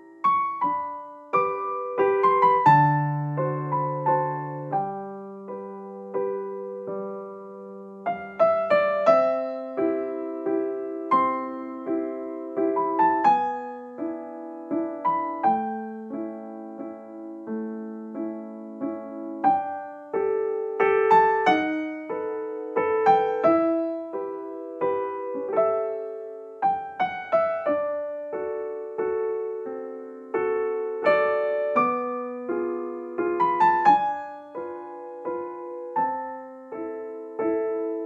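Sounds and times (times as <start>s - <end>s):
slow solo piano: 0.0s - 38.0s.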